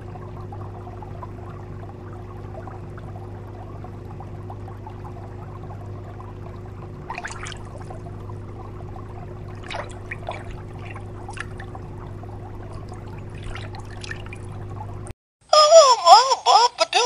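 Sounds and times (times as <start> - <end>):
bubbly splashes: 0.0 - 15.1
steady low hum: 0.0 - 15.1
water trickling and bubbling: 0.0 - 15.1.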